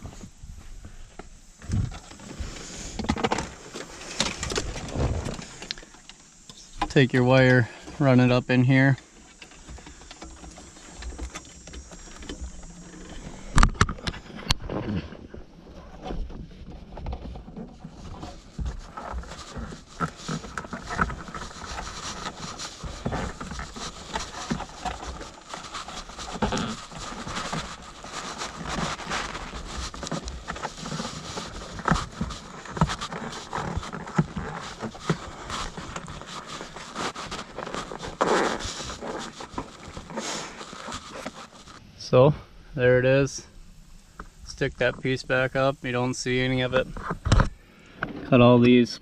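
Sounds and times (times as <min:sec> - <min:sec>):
rustling and scraping of wire: 0:00.0 - 0:41.8, 0:42.8 - 0:48.8.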